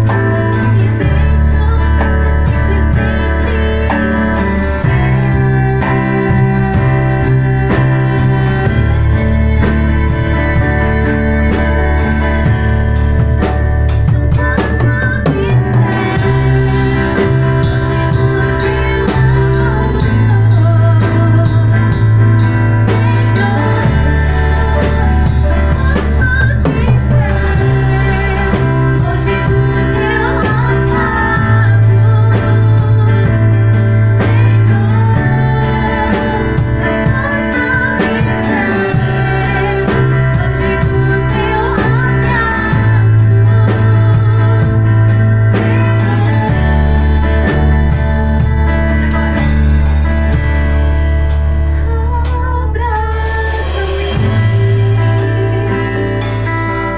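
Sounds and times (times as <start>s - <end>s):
person singing: 0.0s - 50.4s, 51.7s - 56.9s
bass notes: 0.0s - 56.9s
drum kit: 0.0s - 56.9s
guitar: 0.0s - 56.9s.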